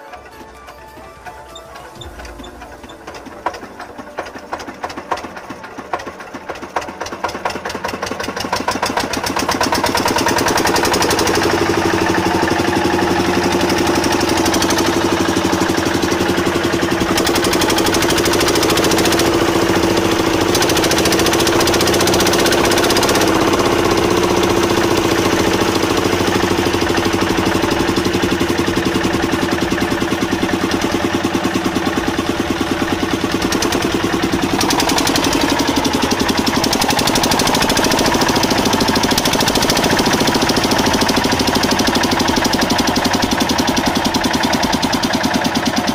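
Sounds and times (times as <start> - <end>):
diesel engine knocking: 0.0 - 45.9.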